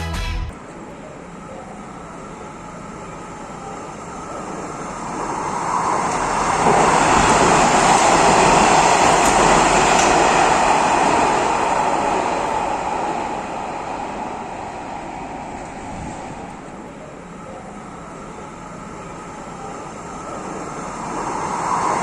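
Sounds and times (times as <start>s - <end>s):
metro train passing: 0.0s - 22.0s.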